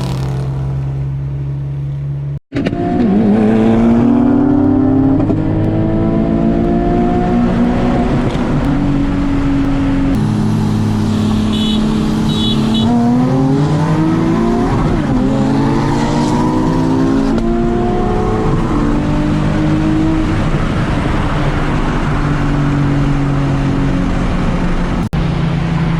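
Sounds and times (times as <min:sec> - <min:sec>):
sports car engine accelerating: 0:00.0 - 0:25.0.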